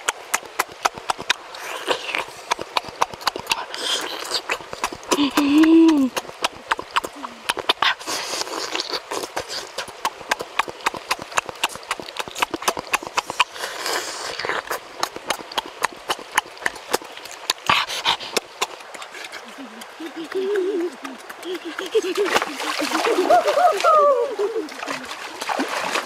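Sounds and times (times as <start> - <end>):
wet lip smacks and mouth clicks: 0.0 - 23.3
fruit being bitten and chewed: 0.0 - 23.4.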